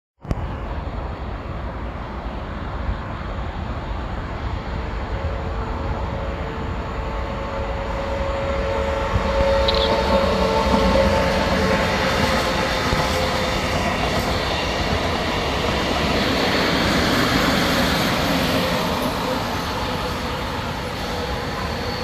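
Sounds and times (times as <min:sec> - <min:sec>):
train rumble: 0:00.2 - 0:22.0
locomotive whine: 0:03.5 - 0:22.0.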